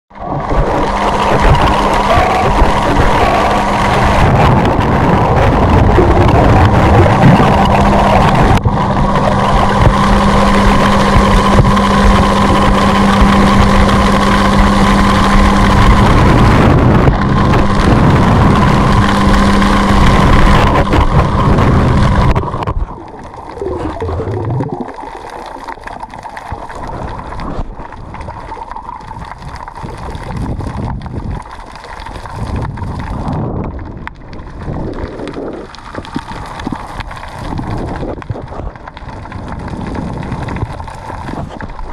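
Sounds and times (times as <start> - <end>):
underwater boat engine drone: 0.1 - 41.9
underwater water noise: 0.1 - 41.9.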